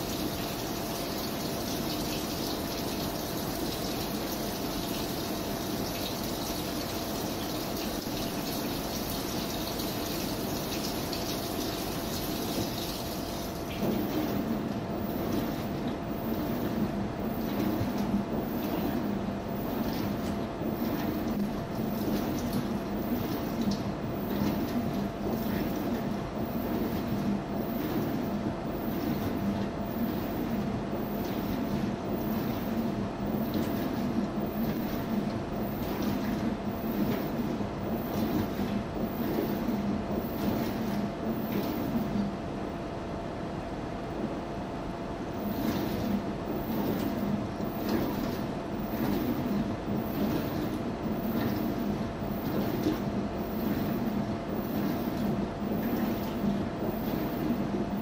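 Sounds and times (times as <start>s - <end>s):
washing machine drum rumbling: 0.0s - 42.4s, 45.3s - 58.0s
water rushing into washing machine: 0.0s - 42.4s, 45.3s - 58.0s.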